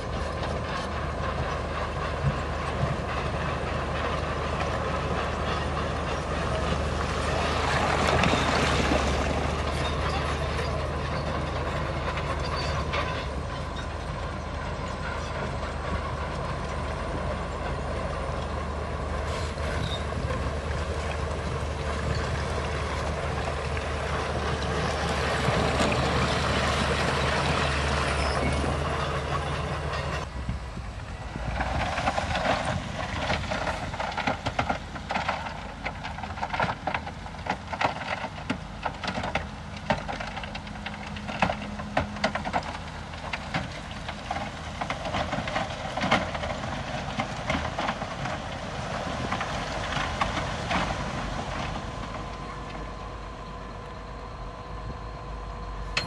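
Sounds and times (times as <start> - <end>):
steel tracks clanking and squealing: 0.0 - 30.4, 31.2 - 53.7
bulldozer diesel engine: 0.0 - 56.0.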